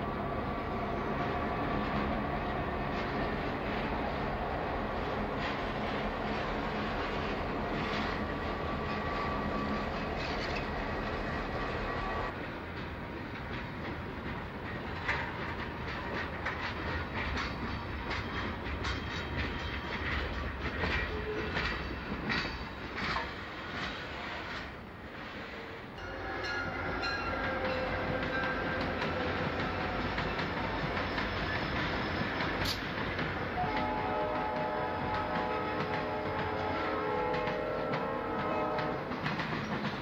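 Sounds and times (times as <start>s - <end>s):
diesel locomotive engine: 0.0s - 40.0s
wheels clacking over rail joints: 5.2s - 12.1s, 12.7s - 24.8s, 26.5s - 40.0s.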